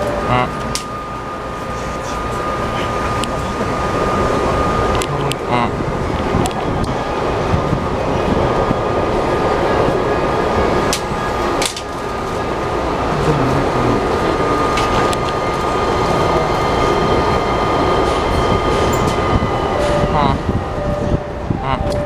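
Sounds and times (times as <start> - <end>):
high steady whine: 0.0 - 22.0
train equipment hum: 0.0 - 22.0.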